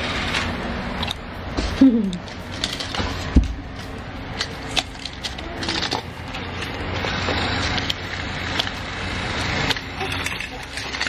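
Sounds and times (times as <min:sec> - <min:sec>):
toy motor humming: 0:01.0 - 0:11.0.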